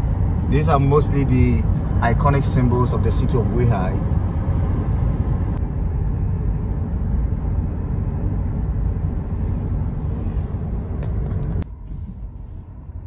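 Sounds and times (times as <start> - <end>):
car tyre and engine rumble: 0.0 - 13.0.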